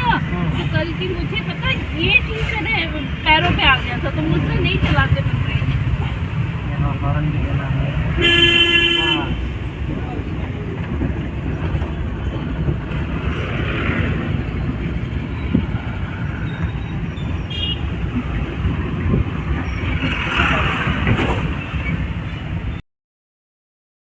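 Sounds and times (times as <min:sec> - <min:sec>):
car engine and road noise: 0:00.0 - 0:22.8.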